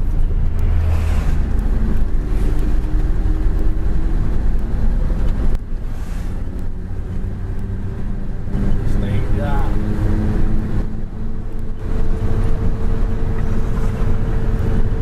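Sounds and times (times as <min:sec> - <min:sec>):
road noise: 0:00.0 - 0:15.0
truck diesel engine rumble: 0:00.0 - 0:15.0.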